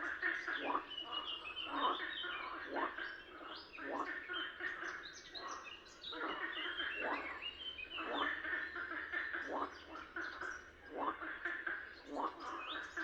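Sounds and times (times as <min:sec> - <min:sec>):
frogs croaking: 0:00.0 - 0:13.0
songbirds chorus: 0:00.0 - 0:13.0.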